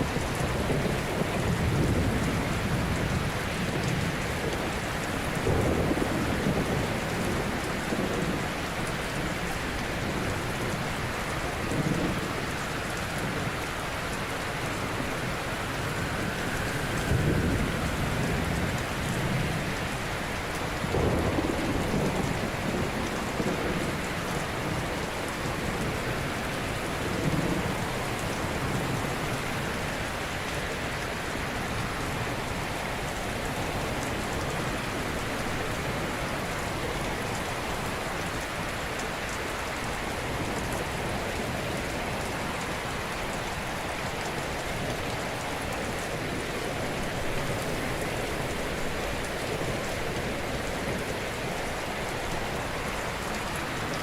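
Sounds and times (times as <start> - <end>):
water rushing: 6.8 - 23.6, 25.2 - 54.0.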